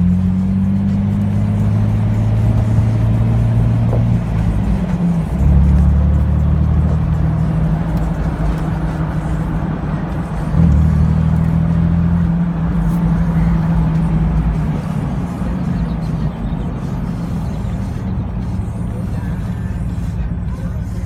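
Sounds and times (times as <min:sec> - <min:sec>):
deep exhaust drone while driving: 0:00.0 - 0:21.0.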